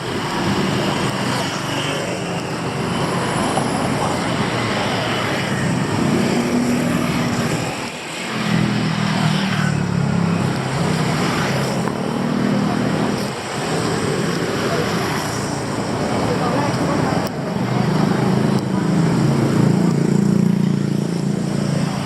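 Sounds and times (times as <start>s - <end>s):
passing vehicle engines: 0.0s - 22.0s.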